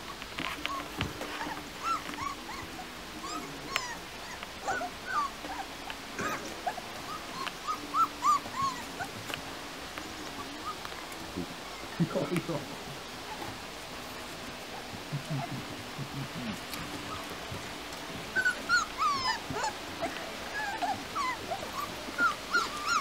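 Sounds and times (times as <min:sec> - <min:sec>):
puppies whimpering and yipping: 0:00.0 - 0:23.0.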